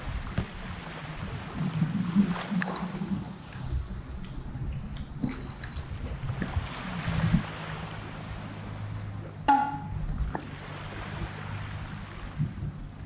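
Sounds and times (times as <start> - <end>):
boat engine hum: 0.0 - 13.0
water noise: 0.0 - 13.0
wind: 0.0 - 13.0.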